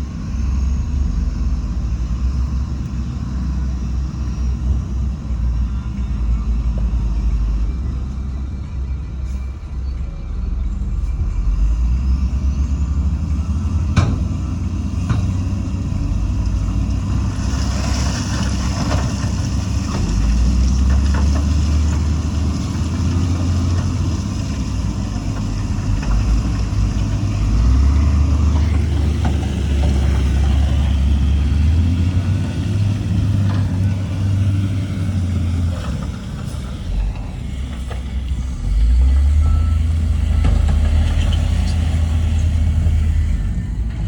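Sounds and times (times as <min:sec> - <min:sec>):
diesel engine deep rumble: 0:00.0 - 0:44.0.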